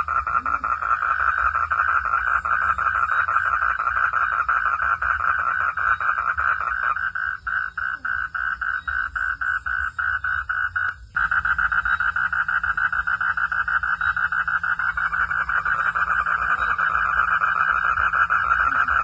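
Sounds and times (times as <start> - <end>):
frogs calling: 0.0 - 19.0.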